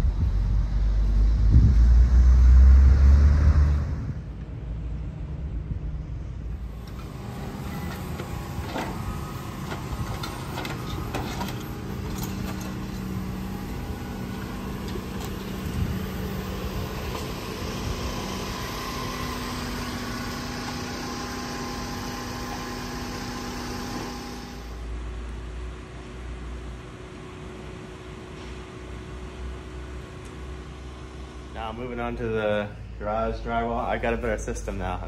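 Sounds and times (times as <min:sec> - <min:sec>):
high steady whine: 0:00.0 - 0:35.0
truck engine running: 0:00.0 - 0:35.0.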